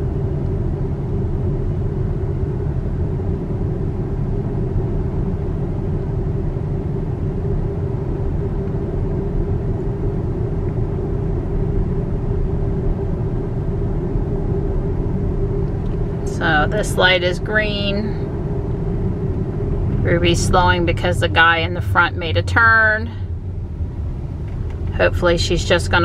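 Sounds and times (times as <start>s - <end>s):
road and tyre rumble in car: 0.0s - 26.0s.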